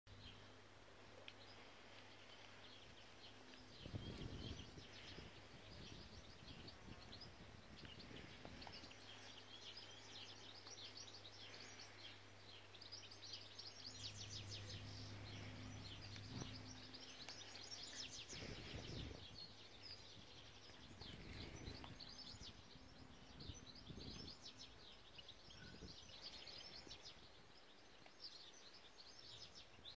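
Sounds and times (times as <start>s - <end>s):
low steady hum: 0.1s - 29.0s
faint songbirds chirping: 0.1s - 30.0s.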